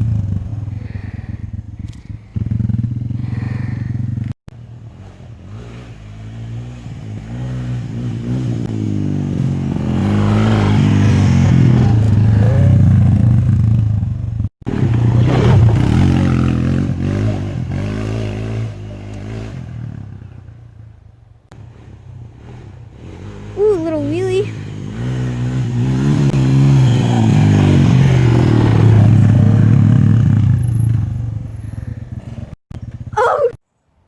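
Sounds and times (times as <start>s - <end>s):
quad engine revving: 0.0s - 20.4s, 21.5s - 33.5s.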